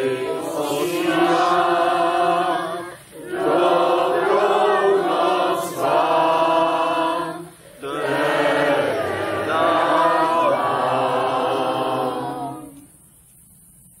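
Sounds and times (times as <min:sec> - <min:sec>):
group of voices singing: 0:00.0 - 0:12.9.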